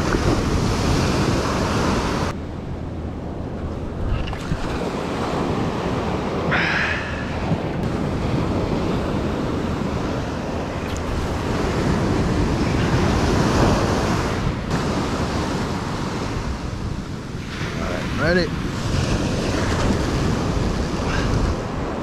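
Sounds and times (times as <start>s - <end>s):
ocean surf on beach: 0.0s - 22.0s
wind buffeting microphone: 0.0s - 22.0s.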